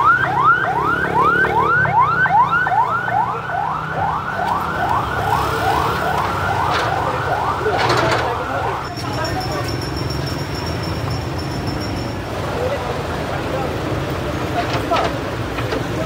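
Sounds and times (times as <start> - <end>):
low traffic hum: 0.0 - 16.0.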